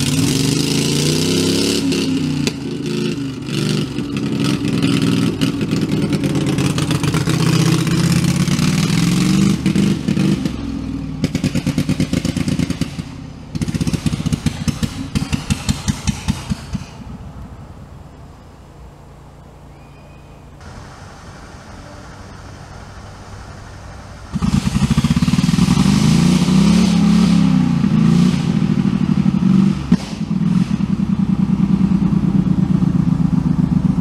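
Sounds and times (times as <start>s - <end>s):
tractor engine revving: 0.0s - 19.8s, 20.4s - 34.0s.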